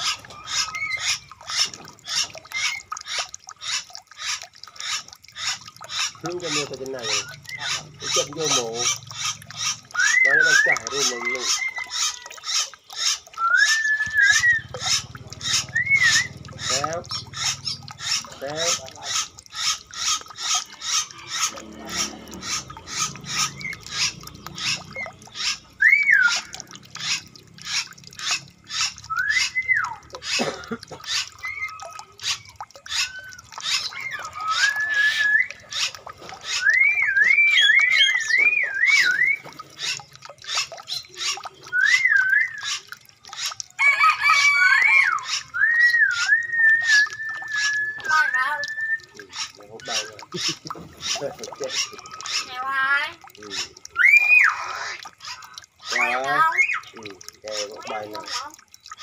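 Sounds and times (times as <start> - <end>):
pulsing bird call: 0.0 - 52.6
birds singing whistled phrases: 0.0 - 59.0.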